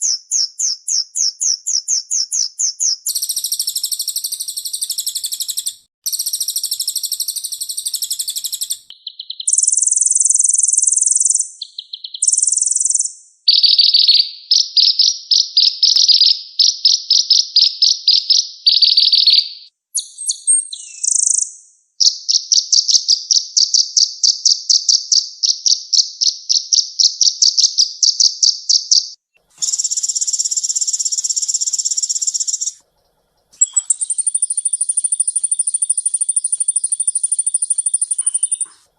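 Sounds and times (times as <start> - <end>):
sunbird song with rapid trills: 0.0 - 32.8, 33.4 - 38.9.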